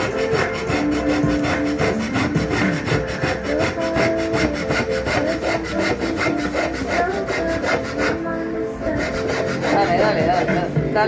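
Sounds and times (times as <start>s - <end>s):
hand saw cutting wood: 0.0s - 10.7s.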